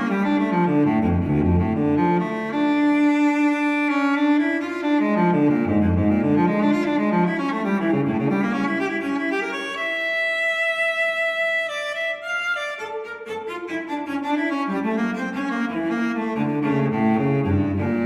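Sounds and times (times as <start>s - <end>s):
slow bowed string music: 0.0s - 18.0s.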